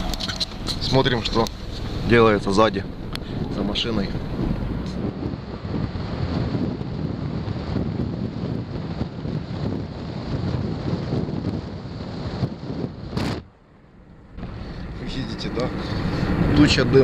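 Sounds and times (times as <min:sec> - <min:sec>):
exhaust gusting on microphone: 0:00.0 - 0:13.5, 0:14.2 - 0:17.0.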